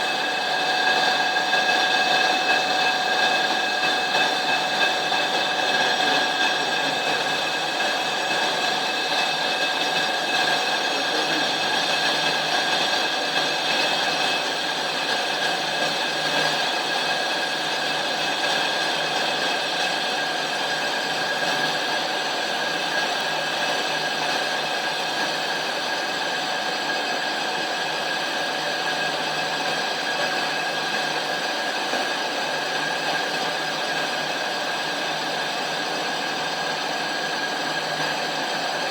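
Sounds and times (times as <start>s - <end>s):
lathe cutting metal: 0.0s - 38.9s.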